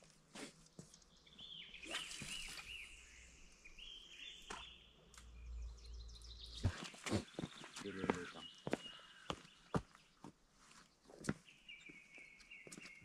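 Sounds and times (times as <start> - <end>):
songbird chirping and warbling: 0.4 - 13.0.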